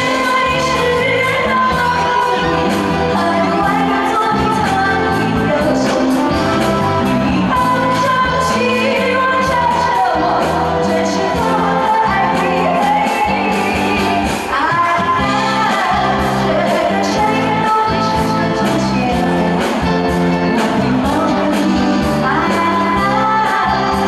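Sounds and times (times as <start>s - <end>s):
live band playing: 0.0s - 24.0s
woman singing pop song: 0.0s - 24.0s.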